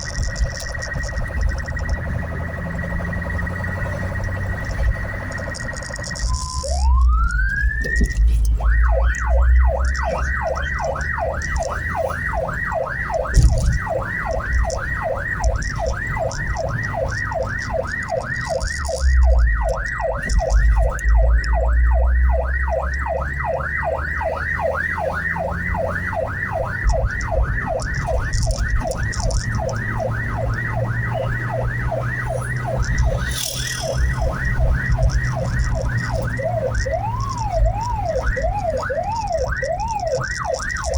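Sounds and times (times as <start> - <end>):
ambulance siren wailing and yelping: 0.0 - 40.9
vehicle engine and road rumble: 0.0 - 40.9.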